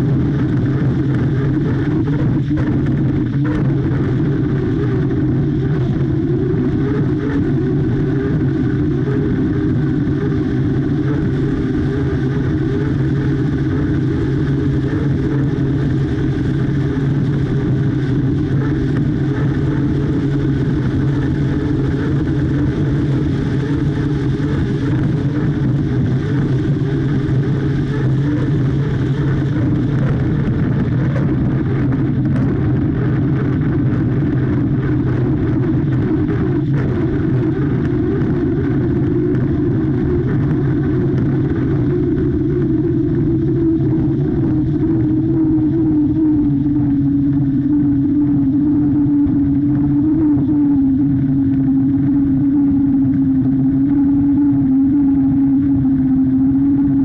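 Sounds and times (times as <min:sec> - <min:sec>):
rush of wind and spray: 0:00.0 - 0:57.0
turbine engine running: 0:00.0 - 0:57.0.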